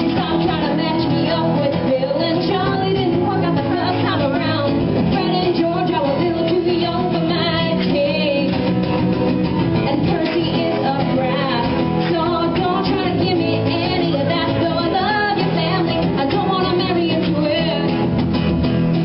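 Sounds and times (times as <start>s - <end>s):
woman singing: 0.0s - 8.9s, 9.8s - 18.1s
acoustic guitar: 0.0s - 19.0s.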